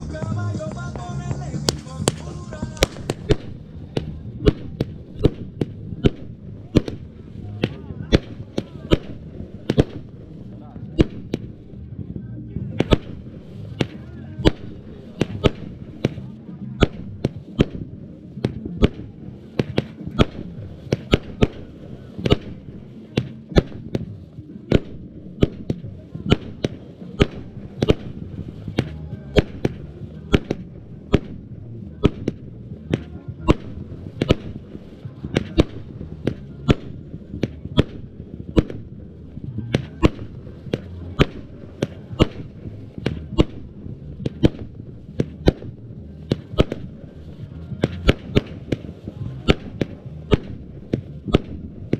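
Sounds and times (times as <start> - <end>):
firework cake bangs: 0.2 - 11.8, 12.6 - 51.9.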